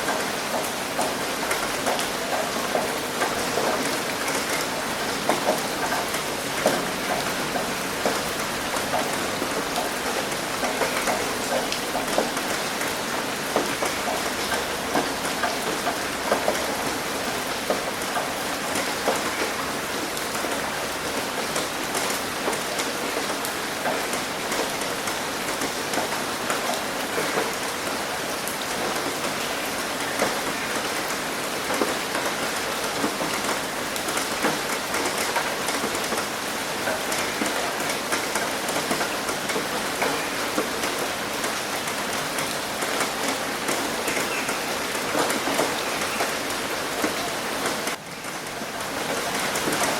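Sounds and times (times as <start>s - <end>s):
rain hitting a roof: 0.0s - 49.9s.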